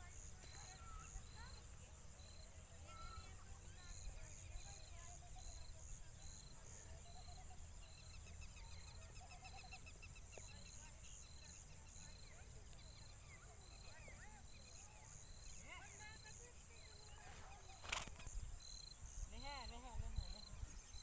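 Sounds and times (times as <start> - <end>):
bird calls: 0.0 - 21.0
constant high buzz: 0.0 - 21.0
insect-like chirp: 0.0 - 21.0.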